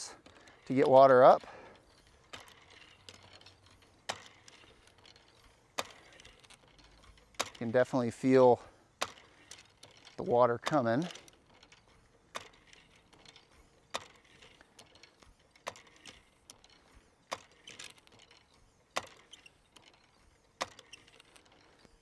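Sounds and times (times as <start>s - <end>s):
hand pump metal clacking: 0.0s - 22.0s
pump rattling: 0.0s - 22.0s.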